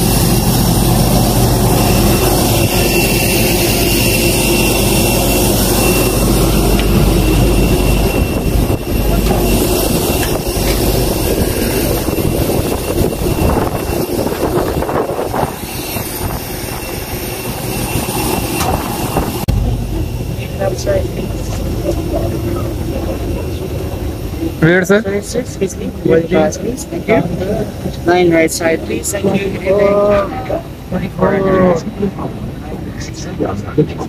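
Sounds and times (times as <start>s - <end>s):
low bumps: 0.0s - 31.1s
jet turbine whine: 0.0s - 34.0s.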